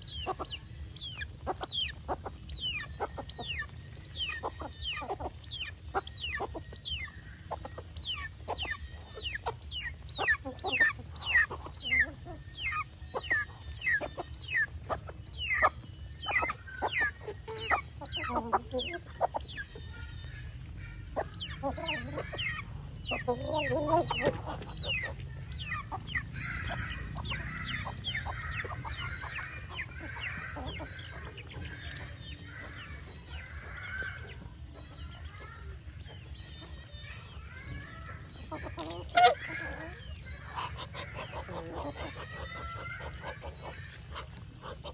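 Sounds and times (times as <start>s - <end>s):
ducks geese and chickens calling: 0.0s - 44.9s.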